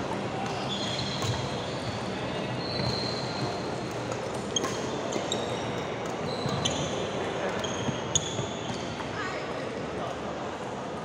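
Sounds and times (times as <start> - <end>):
busy sports hall noise: 0.0 - 11.0.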